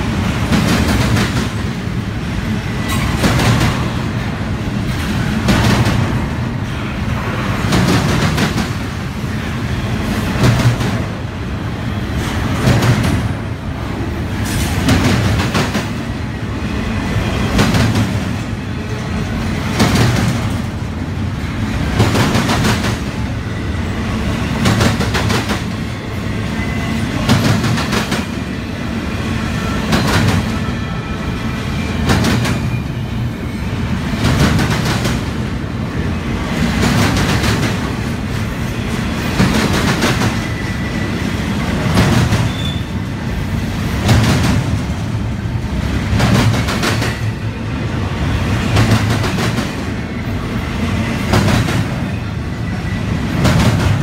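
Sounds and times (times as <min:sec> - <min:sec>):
freight train rumble: 0:00.0 - 0:54.0.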